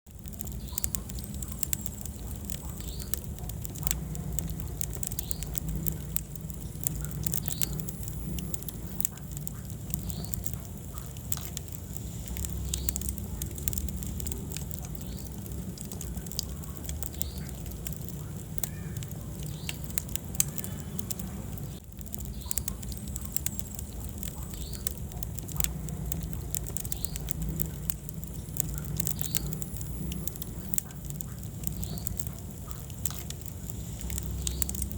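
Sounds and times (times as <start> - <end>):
fire crackling and popping: 0.0 - 34.9
low rumble of flames: 0.0 - 34.9.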